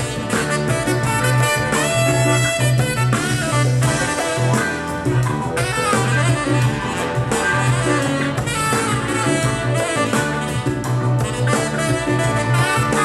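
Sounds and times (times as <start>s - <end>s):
pop music with horns and bass: 0.0s - 13.0s.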